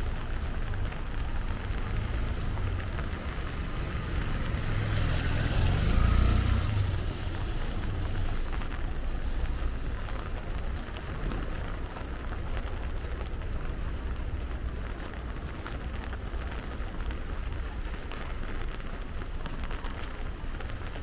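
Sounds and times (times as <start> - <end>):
low street rumble: 0.0 - 21.0
vehicle tyres hissing on wet road: 0.0 - 21.0.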